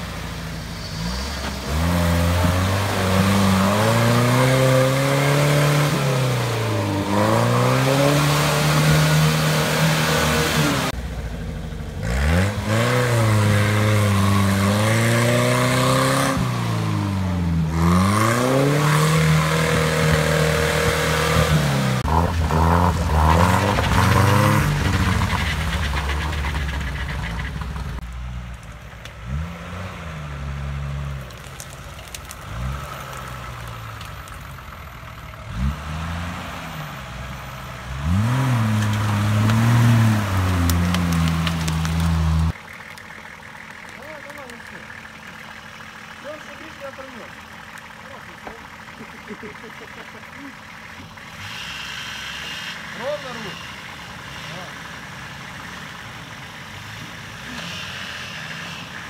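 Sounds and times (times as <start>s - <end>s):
off-road engine revving: 0.0s - 59.0s
quieter engine: 0.0s - 59.0s.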